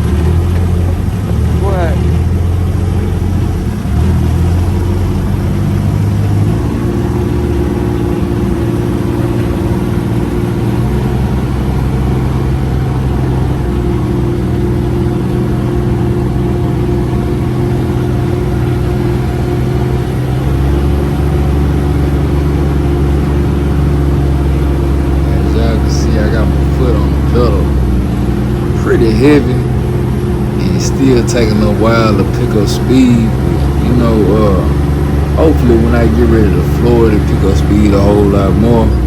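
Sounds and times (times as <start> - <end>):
utv engine revving: 0.0 - 39.0.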